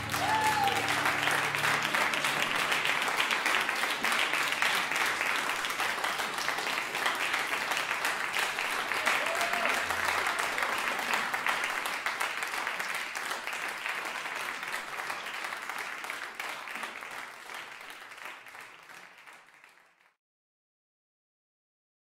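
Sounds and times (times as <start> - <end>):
audience applauding: 0.0 - 20.2.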